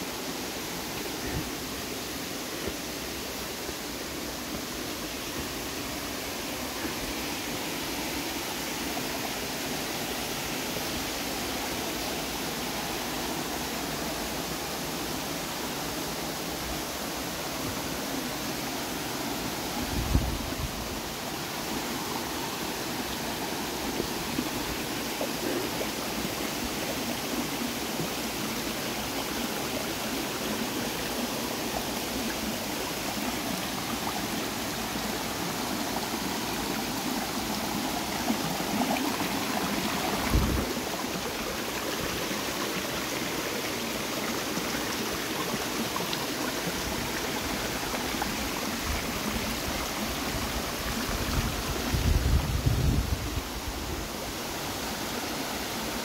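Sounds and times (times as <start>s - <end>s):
creek running over rocks: 0.0s - 56.0s.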